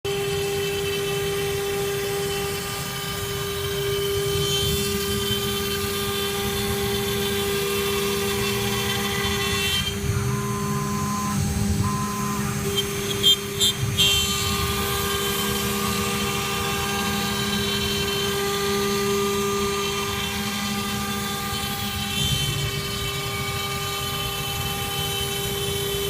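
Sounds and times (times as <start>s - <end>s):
router spindle whine: 0.0s - 26.0s
machine rumble: 0.2s - 26.0s.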